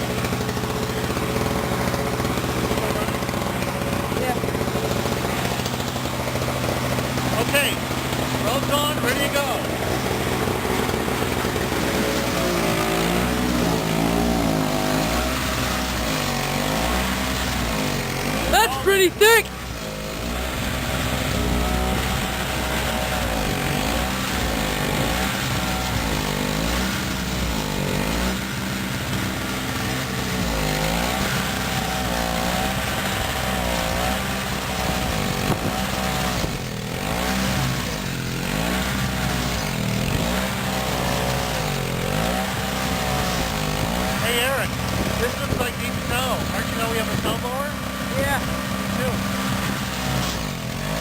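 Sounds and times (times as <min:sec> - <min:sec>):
snowblower engine running: 0:00.0 - 0:51.0.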